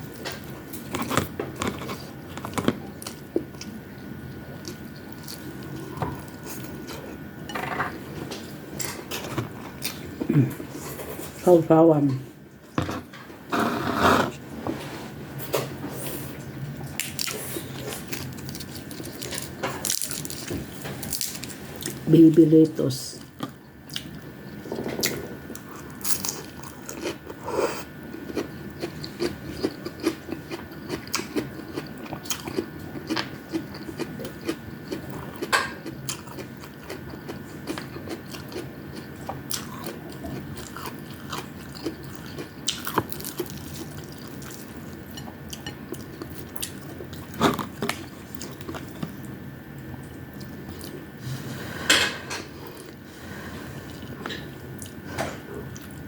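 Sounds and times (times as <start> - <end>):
person chewing and crunching food: 0.0 - 7.3, 8.1 - 11.4, 16.8 - 22.0, 23.2 - 51.1, 52.5 - 56.0.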